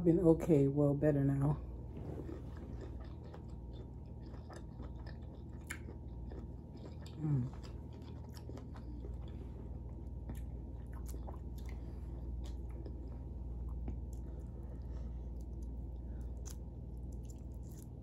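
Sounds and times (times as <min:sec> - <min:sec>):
steady low hum: 0:00.0 - 0:18.0
person chewing: 0:02.0 - 0:18.0.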